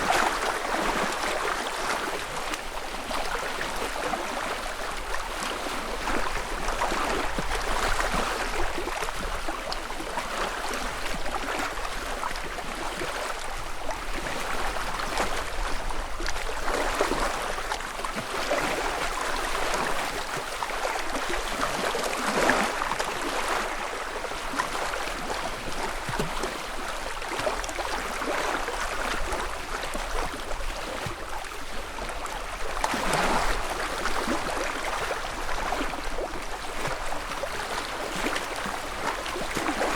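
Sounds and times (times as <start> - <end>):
lake ripples lapping at shore: 0.0 - 39.9.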